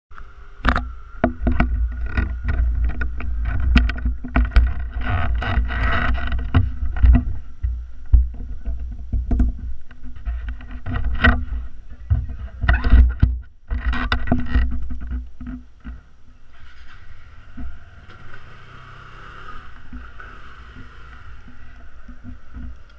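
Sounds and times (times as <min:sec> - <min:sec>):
low rumbling rustle: 0:00.1 - 0:22.9.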